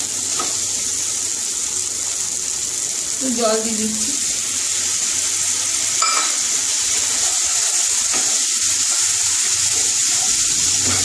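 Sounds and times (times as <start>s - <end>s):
oil and spices sizzling: 0.0s - 11.0s.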